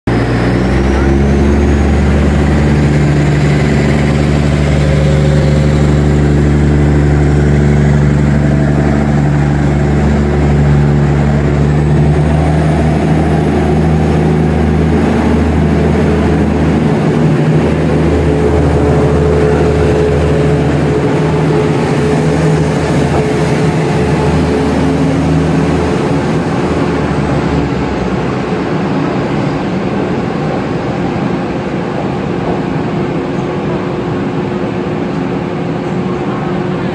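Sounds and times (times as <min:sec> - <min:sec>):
diesel train engine drone: 0:00.0 - 0:36.9.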